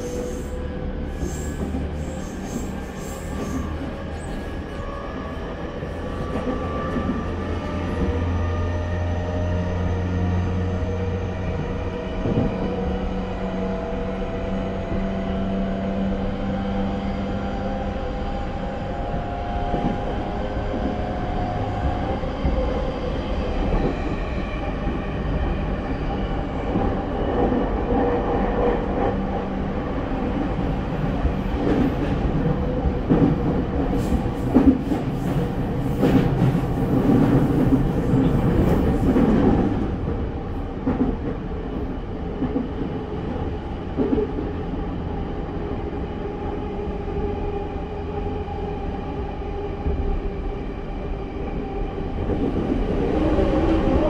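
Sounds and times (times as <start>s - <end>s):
train wheel and track rumble: 0.0s - 54.0s.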